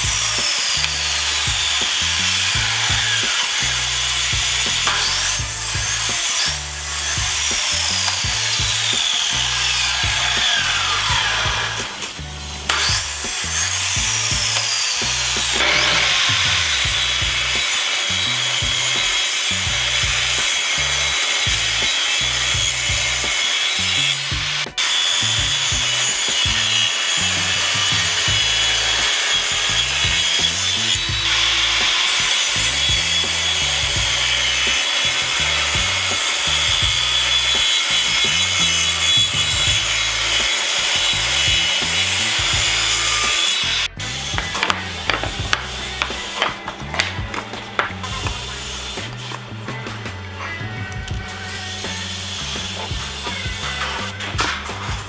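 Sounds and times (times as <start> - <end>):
miter saw cutting wood: 0.0 - 55.0
table saw cutting boards: 0.0 - 55.0.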